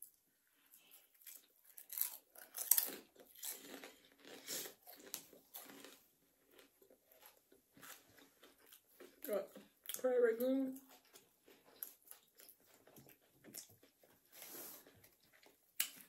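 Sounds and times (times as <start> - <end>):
crunching and chewing: 0.0 - 16.0.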